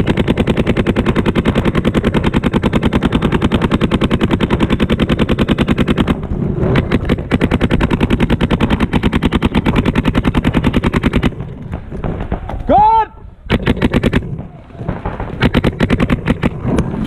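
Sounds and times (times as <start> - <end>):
paintball marker rapid firing: 0.0 - 12.7, 13.4 - 17.0.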